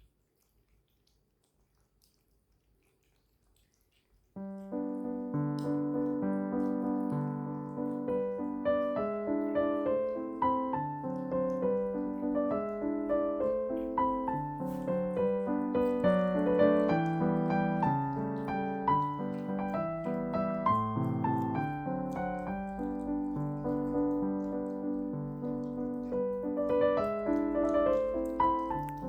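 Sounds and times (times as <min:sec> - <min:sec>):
solo piano music: 0:04.4 - 0:29.0.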